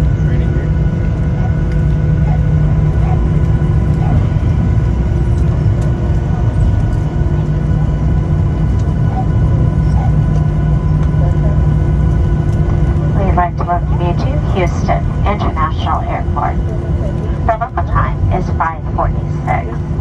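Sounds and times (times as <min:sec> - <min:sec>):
airliner cabin rumble: 0:00.0 - 0:20.0
jet engine whine: 0:00.0 - 0:20.0.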